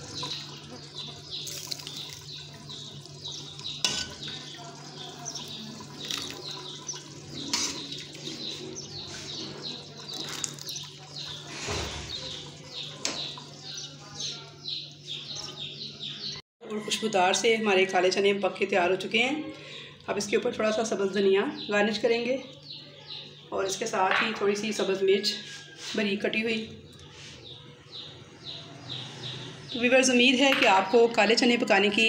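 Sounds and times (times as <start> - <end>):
small birds chirping: 0.0 - 17.1, 19.1 - 25.8, 26.5 - 32.0.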